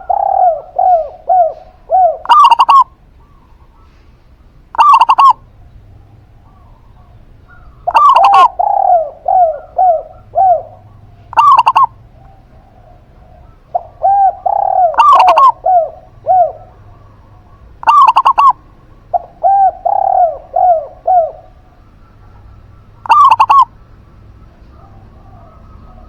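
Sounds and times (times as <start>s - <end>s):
dove quick cooing bursts: 0.0s - 5.5s, 6.1s - 26.0s
dove soft low cooing: 0.0s - 26.0s.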